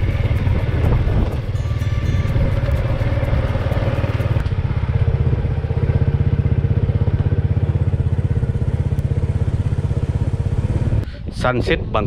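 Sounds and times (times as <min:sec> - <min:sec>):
small motorcycle engine running: 0:00.0 - 0:11.1.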